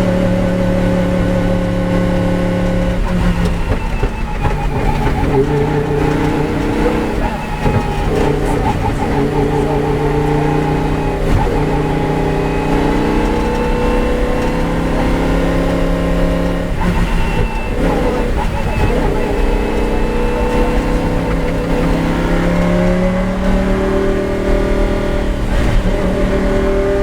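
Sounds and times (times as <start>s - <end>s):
race car engine running hard: 0.0s - 27.0s.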